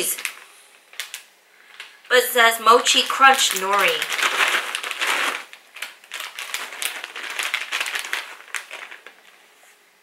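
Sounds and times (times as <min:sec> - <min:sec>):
plastic snack bag crinkling: 0:00.0 - 0:09.6.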